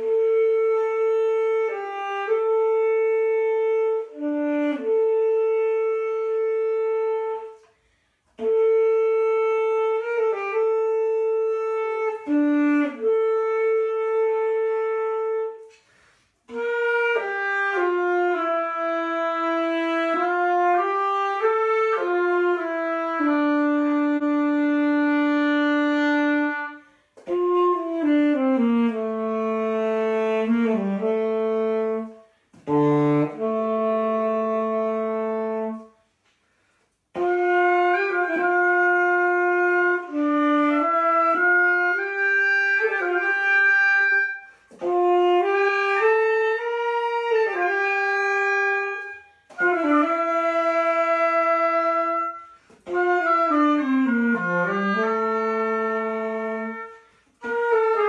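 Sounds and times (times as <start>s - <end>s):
saxophone slow melody: 0.0s - 58.0s.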